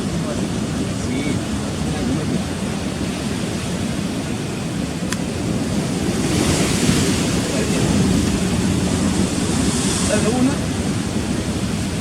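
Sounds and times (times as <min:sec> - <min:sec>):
sea surf churning against rocks: 0:00.0 - 0:12.0
wind buffeting microphone: 0:00.0 - 0:12.0.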